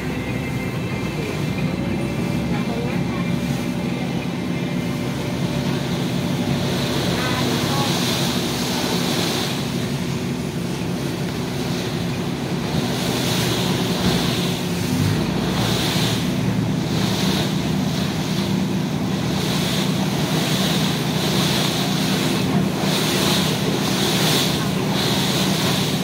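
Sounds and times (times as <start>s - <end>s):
boat engine humming: 0.0s - 26.0s
water splashing against hull: 0.0s - 26.0s.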